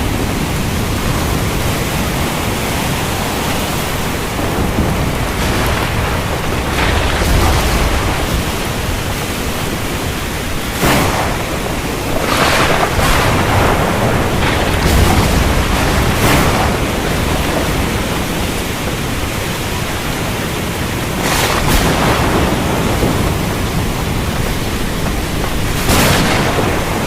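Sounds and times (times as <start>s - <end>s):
heavy rain: 0.0s - 27.0s
thunder crack: 0.0s - 27.0s
thunder rumbling: 0.0s - 27.0s.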